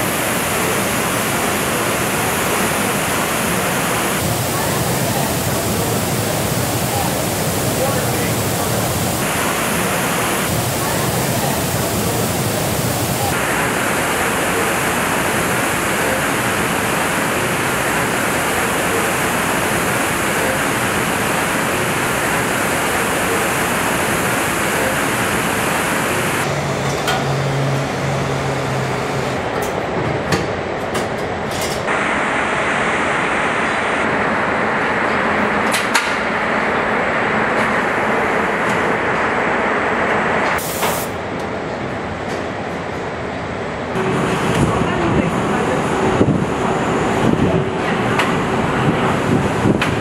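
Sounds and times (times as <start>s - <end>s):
loud rushing air noise: 0.0s - 50.0s.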